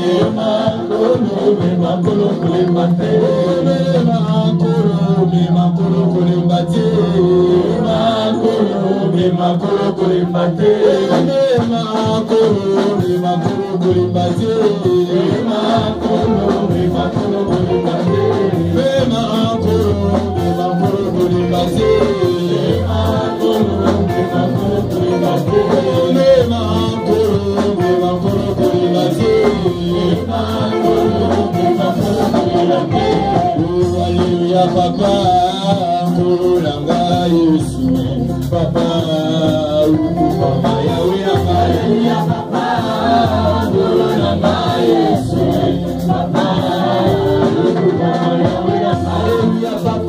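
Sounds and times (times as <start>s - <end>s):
gospel band playing: 0.0s - 50.0s
man singing into a microphone: 0.0s - 50.0s
steady bass beat: 0.0s - 50.0s.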